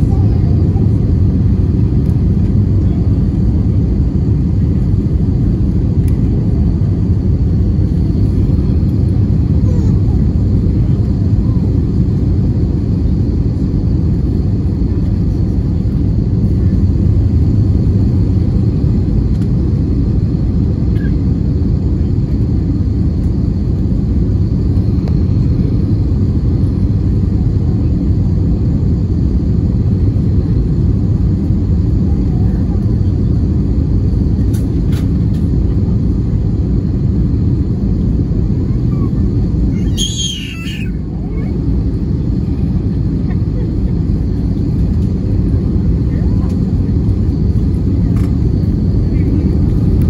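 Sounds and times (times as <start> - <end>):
jet airliner cabin rumble: 0.0 - 50.0.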